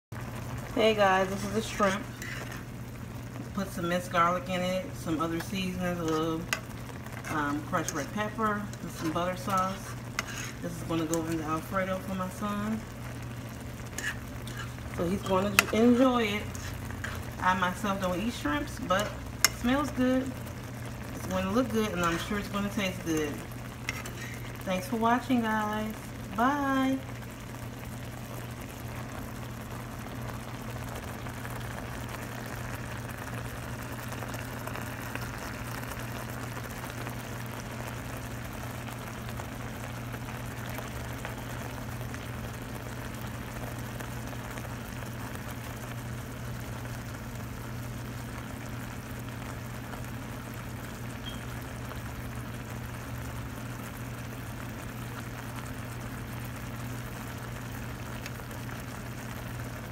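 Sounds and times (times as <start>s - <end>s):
sauce bubbling and sizzling in pan: 0.1s - 59.9s.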